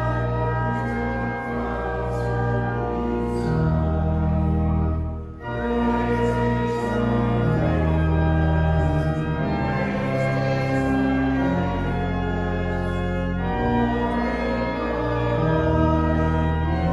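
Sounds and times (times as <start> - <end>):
church organ playing hymn: 0.0 - 16.9.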